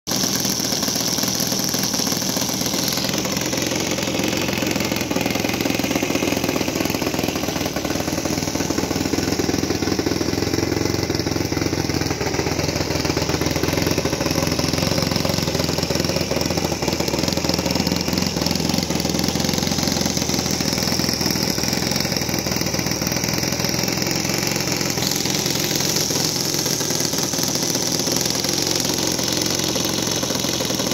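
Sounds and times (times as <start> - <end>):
model airplane engine running: 0.1 - 30.9.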